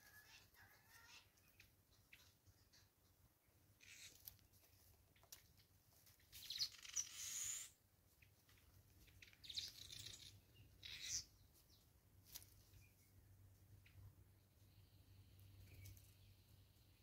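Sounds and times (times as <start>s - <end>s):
small bird chirps: 0.0s - 4.4s, 6.2s - 17.0s.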